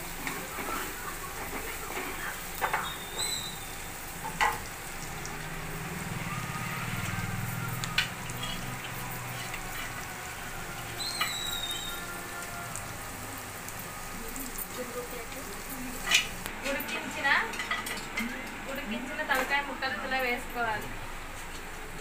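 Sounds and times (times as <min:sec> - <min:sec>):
food sizzling in hot oil: 0:00.0 - 0:21.8.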